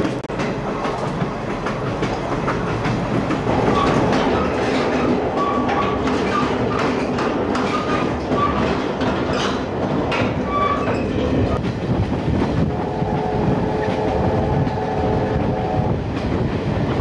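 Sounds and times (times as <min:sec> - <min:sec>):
train wheels clickety-clack: 0:00.0 - 0:17.0.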